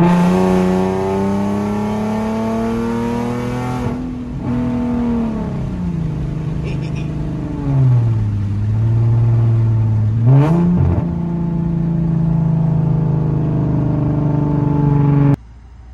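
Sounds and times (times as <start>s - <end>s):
car engine from inside cabin: 0.0s - 15.9s.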